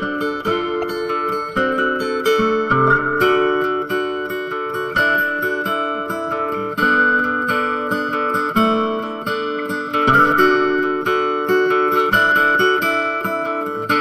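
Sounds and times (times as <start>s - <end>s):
plucked acoustic guitar music: 0.0s - 14.0s.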